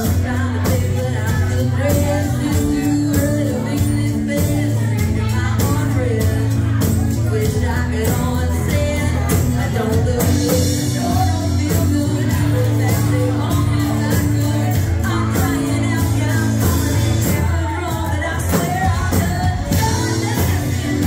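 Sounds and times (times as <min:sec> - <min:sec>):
acoustic guitars: 0:00.0 - 0:21.0
drum kit steady beat: 0:00.0 - 0:21.0
man singing: 0:00.0 - 0:21.0.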